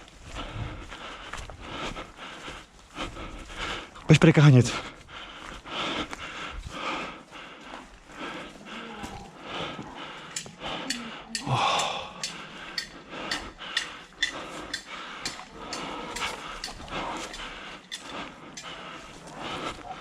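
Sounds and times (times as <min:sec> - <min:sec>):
person panting while running: 0:00.0 - 0:20.0.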